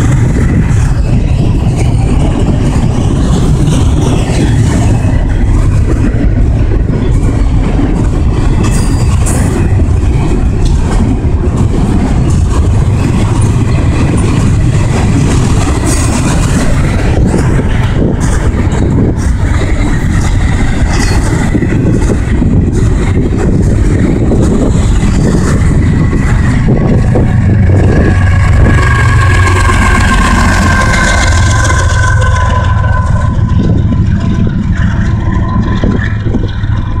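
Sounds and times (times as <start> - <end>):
diesel locomotive engine: 0.0 - 37.0
train wheels rumbling on rail: 0.0 - 37.0.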